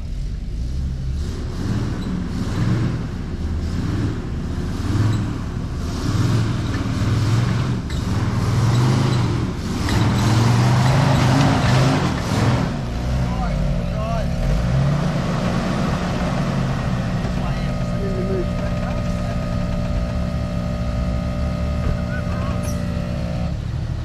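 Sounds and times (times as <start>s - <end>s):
off-road engine revving: 0.0s - 24.0s.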